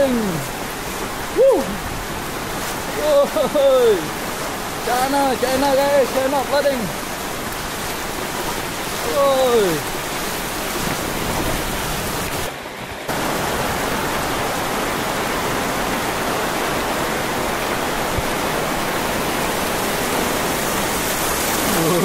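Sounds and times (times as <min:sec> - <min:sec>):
heavy rain on pavement and metal: 0:00.0 - 0:22.0.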